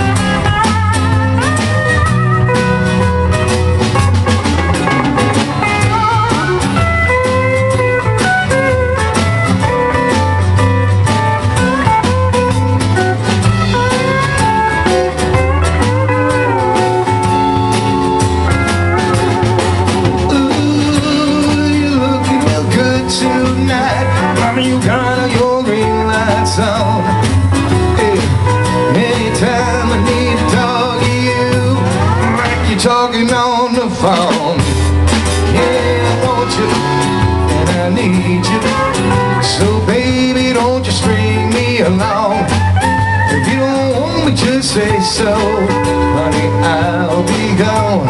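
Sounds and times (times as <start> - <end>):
drums: 0.0 - 48.0
electric guitar: 0.0 - 48.0
sliding steel guitar: 0.0 - 48.0.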